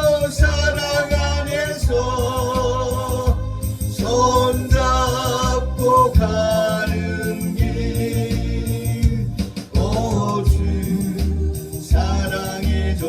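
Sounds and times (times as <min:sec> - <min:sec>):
instrumental accompaniment with low beat: 0:00.0 - 0:13.0
solo voice singing: 0:00.0 - 0:13.0.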